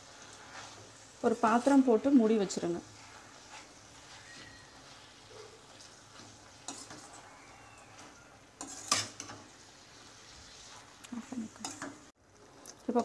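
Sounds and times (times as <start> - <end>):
spoon scraping in a metal pan: 0.1 - 12.1.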